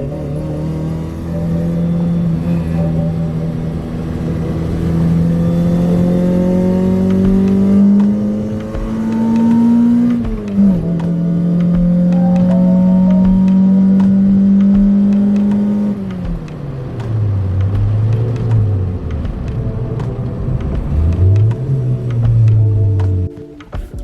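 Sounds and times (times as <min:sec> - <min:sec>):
car engine accelerating: 0:00.0 - 0:23.5.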